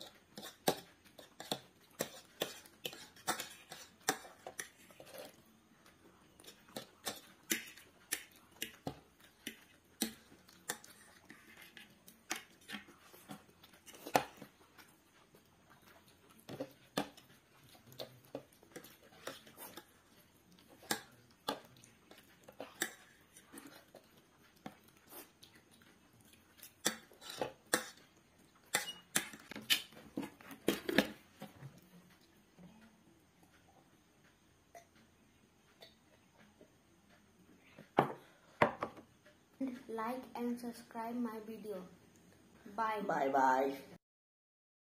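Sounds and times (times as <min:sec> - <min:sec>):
chewing: 0:00.0 - 0:38.0.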